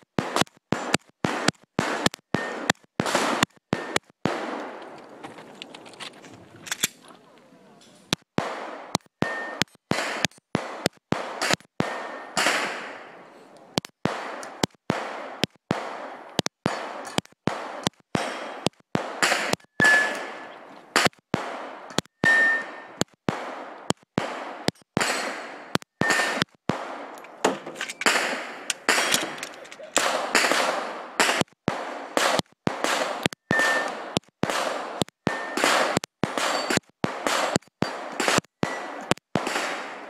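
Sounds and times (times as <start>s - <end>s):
pistol shots echoing: 0.0s - 5.8s, 8.1s - 40.0s.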